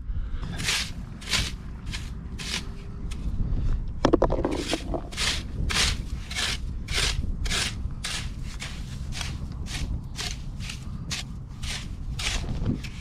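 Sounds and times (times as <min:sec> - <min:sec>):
metal rake scraping wet sand: 0:00.6 - 0:02.9, 0:04.5 - 0:13.0.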